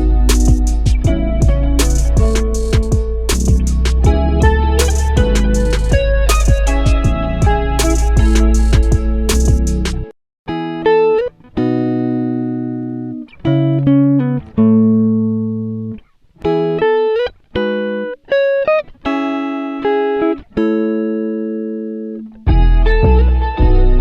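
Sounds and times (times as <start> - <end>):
guitar plucked notes and chords: 0.0 - 24.0.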